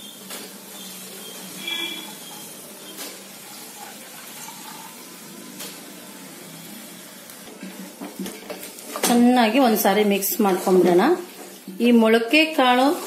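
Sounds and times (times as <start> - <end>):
beans sizzling in hot oil: 0.0 - 13.0.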